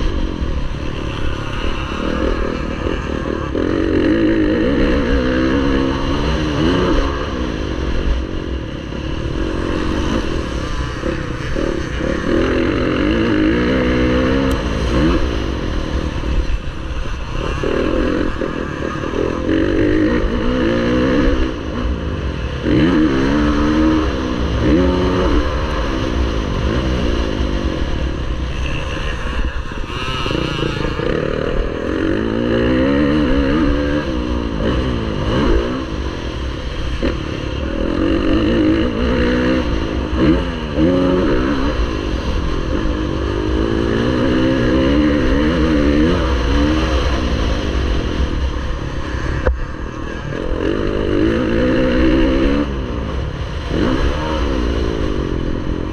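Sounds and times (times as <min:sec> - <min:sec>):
low wind rumble: 0:00.0 - 0:55.9
motocross bike engine racing: 0:00.0 - 0:55.9.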